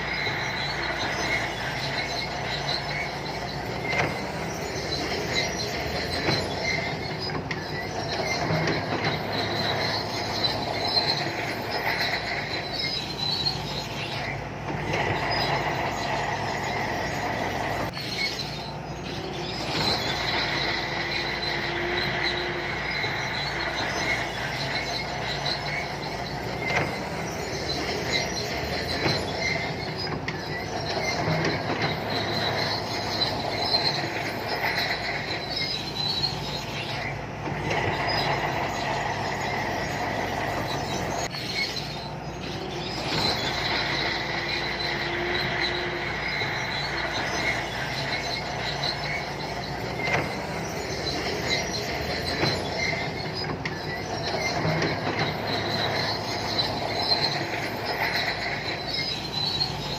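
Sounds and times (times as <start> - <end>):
bulldozer diesel engine running: 0.0 - 59.9
steel tracks squealing and clattering: 0.0 - 59.9.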